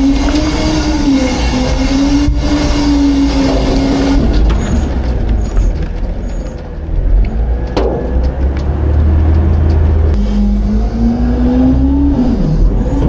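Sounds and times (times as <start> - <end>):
garbage truck engine rumbling: 0.0 - 13.0.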